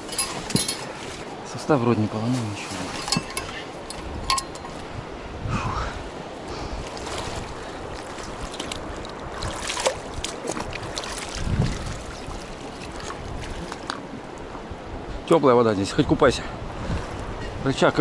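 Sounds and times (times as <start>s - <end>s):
river water flowing: 0.0s - 18.0s
wind on microphone: 2.8s - 18.0s.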